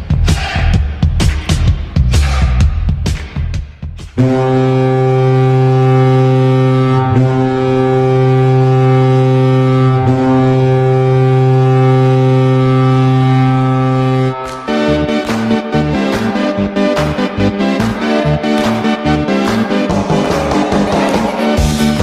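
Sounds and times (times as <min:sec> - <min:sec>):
hockey goal horn blast: 0:04.2 - 0:22.0.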